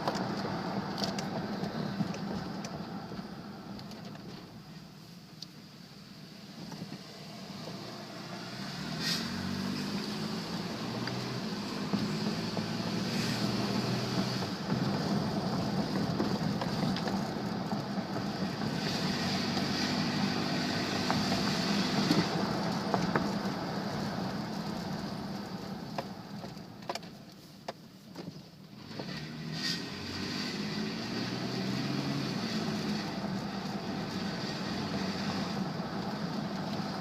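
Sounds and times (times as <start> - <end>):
car engine accelerating: 0.0 - 4.6, 6.4 - 26.9, 28.7 - 37.0
road noise: 0.0 - 37.0.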